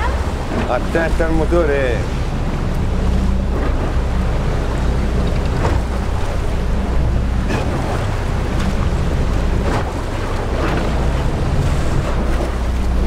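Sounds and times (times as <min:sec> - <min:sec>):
boat engine idling: 0:00.0 - 0:13.0
water noise: 0:00.0 - 0:13.0.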